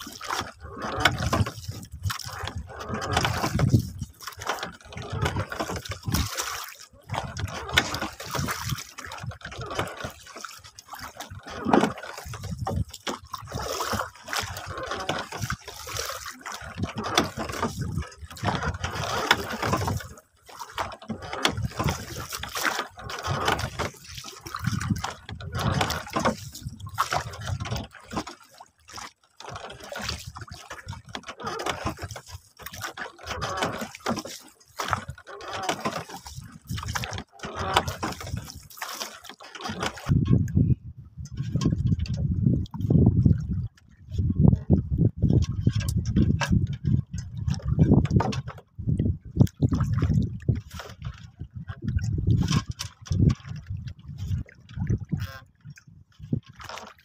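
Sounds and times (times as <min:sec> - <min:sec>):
water lapping against boat hull: 0:00.0 - 0:57.0.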